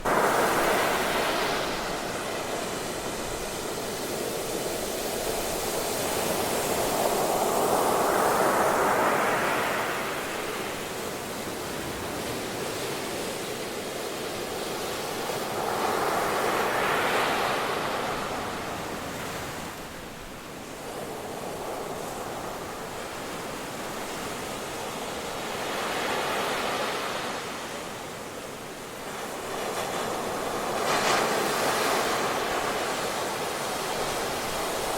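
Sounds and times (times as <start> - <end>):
ocean surf breaking on beach: 0.0 - 34.9.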